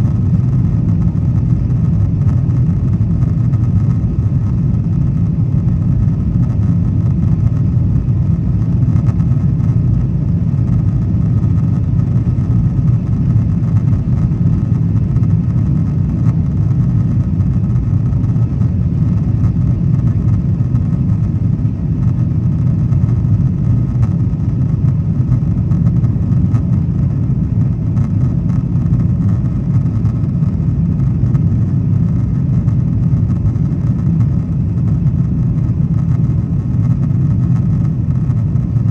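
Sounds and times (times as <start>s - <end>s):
airplane cabin engine rumble: 0.0s - 38.9s
faint steady whine: 0.0s - 38.9s.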